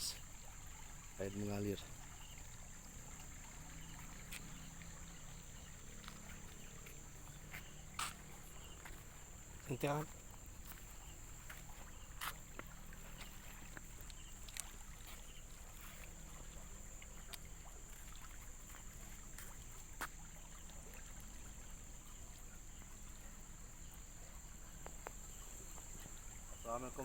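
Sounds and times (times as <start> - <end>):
high insect trill: 0.0 - 27.0
running water: 0.0 - 27.0.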